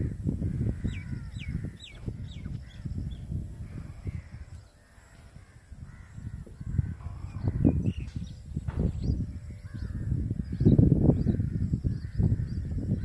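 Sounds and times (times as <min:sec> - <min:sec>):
birds calling: 0:00.0 - 0:13.0
wind rumble on microphone: 0:00.0 - 0:13.0.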